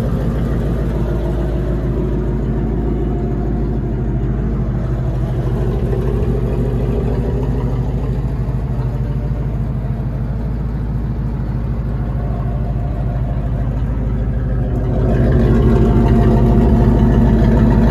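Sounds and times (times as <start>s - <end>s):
truck engine idling: 0.0s - 17.9s.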